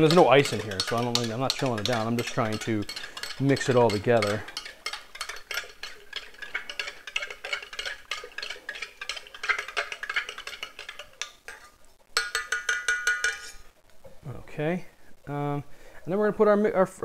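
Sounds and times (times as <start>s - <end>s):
spoon clinking in a pitcher: 0.0s - 13.6s.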